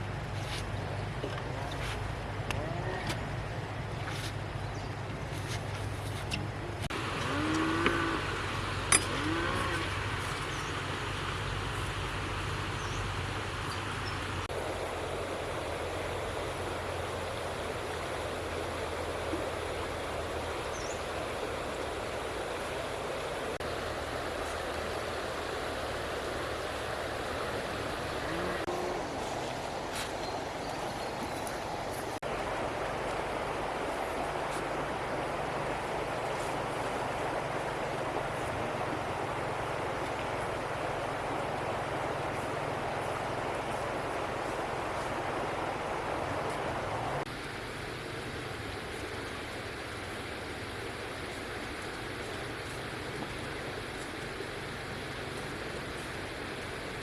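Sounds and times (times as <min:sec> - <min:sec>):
low engine hum: 0:00.0 - 0:57.0
water rushing: 0:00.0 - 0:57.0.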